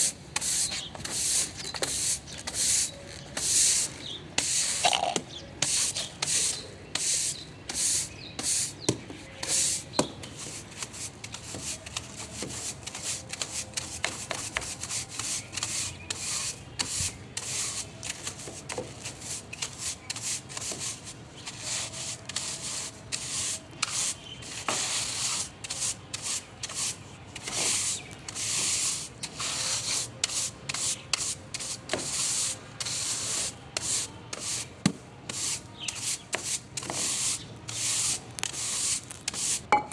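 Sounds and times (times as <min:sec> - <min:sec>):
dry scrubbing strokes: 0:00.0 - 0:05.0, 0:05.6 - 0:39.7.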